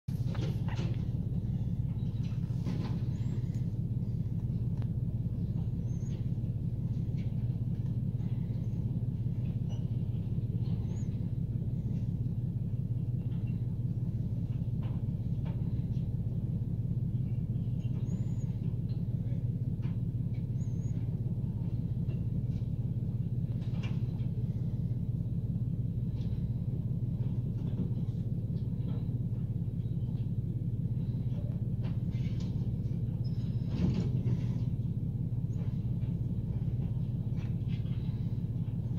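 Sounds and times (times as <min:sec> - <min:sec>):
faint clanks: 0:00.1 - 0:38.9
garbage truck engine rumble: 0:00.1 - 0:38.9.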